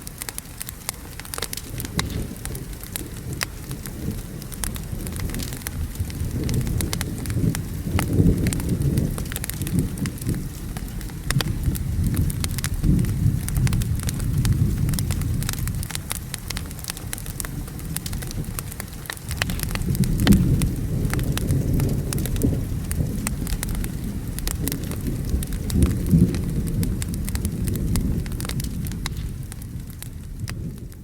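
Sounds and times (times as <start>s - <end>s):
rain: 0.0s - 31.0s
wood fire crackling: 0.0s - 31.0s
thunder rolls: 1.7s - 31.0s.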